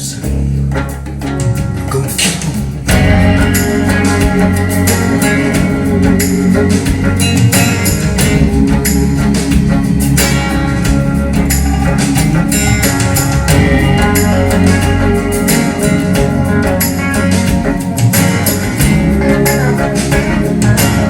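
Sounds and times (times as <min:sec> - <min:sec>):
rock music instrumental: 0:00.0 - 0:21.0.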